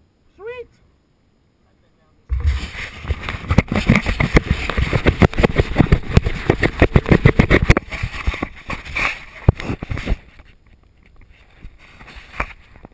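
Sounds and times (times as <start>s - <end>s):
knocks and scrapes on camera housing: 2.3s - 12.9s.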